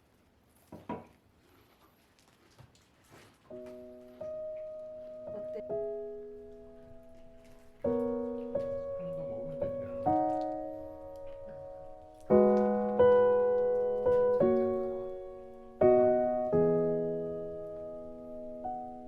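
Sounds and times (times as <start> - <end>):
slow solo piano music: 3.5 - 19.0.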